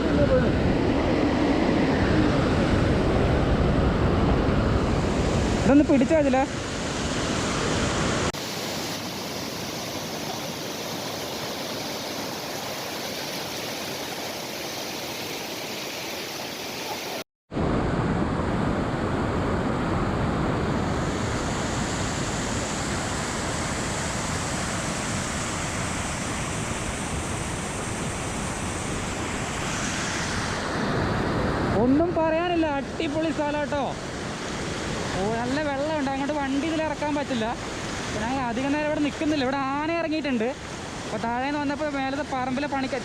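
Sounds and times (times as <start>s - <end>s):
waterfall rushing: 4.8s - 17.2s, 20.9s - 43.0s.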